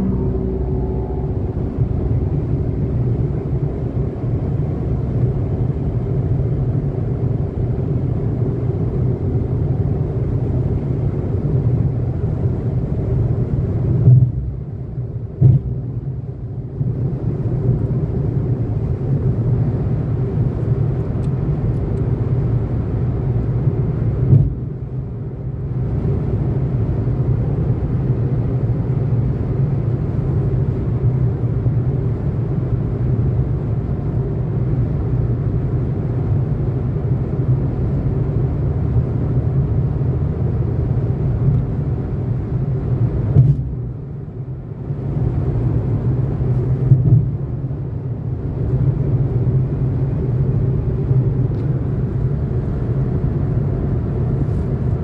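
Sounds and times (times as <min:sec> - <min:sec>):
car cabin road and engine rumble: 0:00.0 - 0:55.0.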